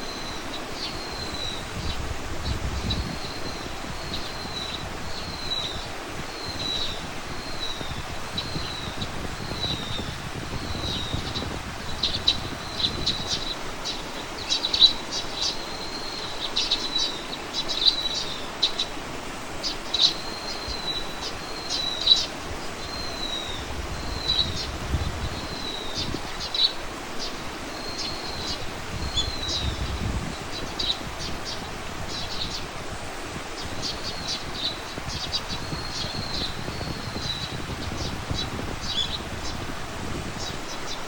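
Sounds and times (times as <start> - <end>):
wind rumble on microphone: 0.0 - 16.7, 17.6 - 41.0
small songbird singing: 0.0 - 41.0.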